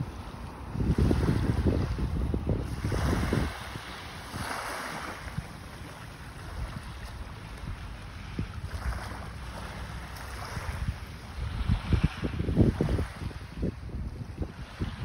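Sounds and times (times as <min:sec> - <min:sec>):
small waves lapping on shore: 0:00.0 - 0:15.0
wind buffeting microphone: 0:00.0 - 0:15.0.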